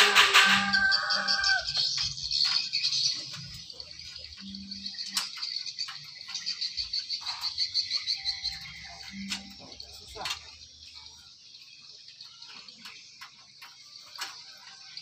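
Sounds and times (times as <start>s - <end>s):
chorus of frogs or insects: 0.0s - 15.0s.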